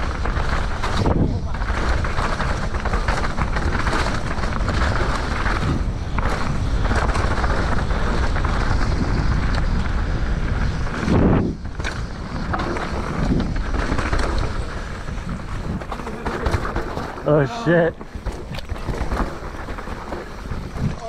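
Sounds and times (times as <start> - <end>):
bike rattling: 0.0 - 21.0
tyres on dirt: 0.0 - 21.0
wind rushing over microphone: 0.0 - 21.0.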